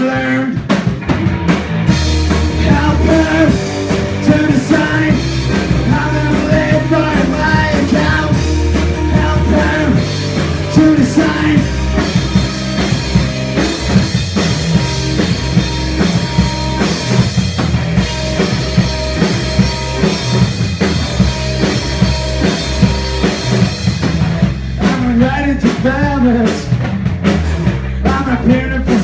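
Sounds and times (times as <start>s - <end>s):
drum kit beating: 0.0s - 29.0s
rock band playing: 0.0s - 29.0s.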